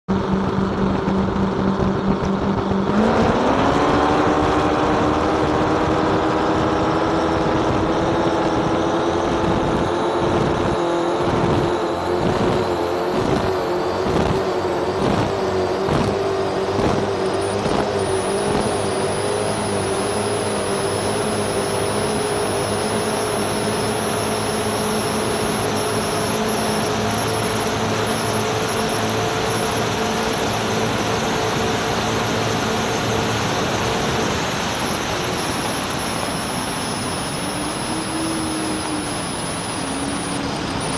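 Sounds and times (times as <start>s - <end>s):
powerboat engines roaring: 0.1s - 40.9s
wind noise: 0.1s - 40.9s.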